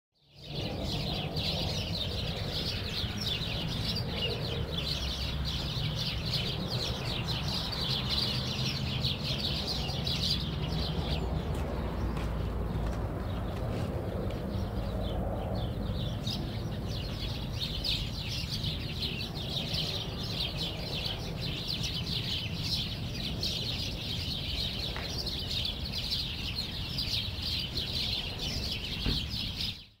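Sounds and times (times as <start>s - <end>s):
small birds chirping: 0.2s - 30.0s.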